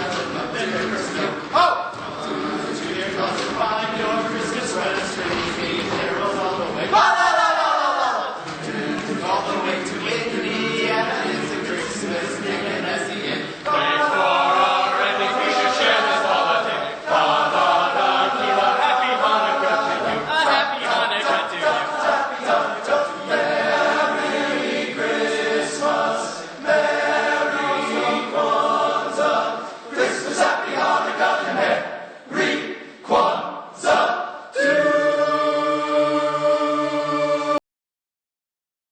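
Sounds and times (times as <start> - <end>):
choir singing a cappella: 0.0 - 37.6.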